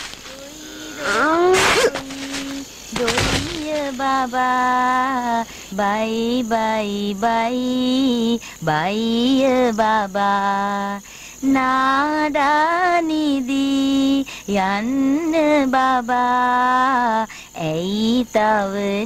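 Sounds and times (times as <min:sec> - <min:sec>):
woman singing a lullaby: 0:00.3 - 0:19.0.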